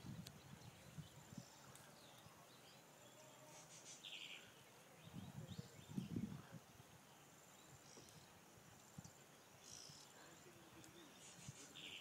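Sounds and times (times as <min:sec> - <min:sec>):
faint chirps: 0:00.3 - 0:12.0.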